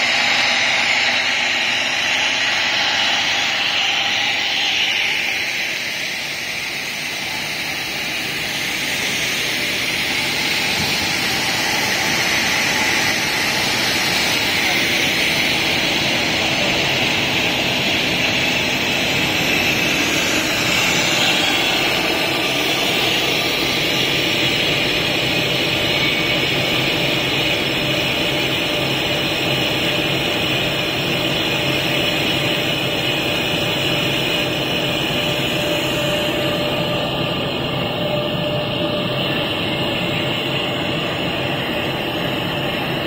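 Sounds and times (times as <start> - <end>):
whir of cooling fans and motors: 0.0 - 43.0.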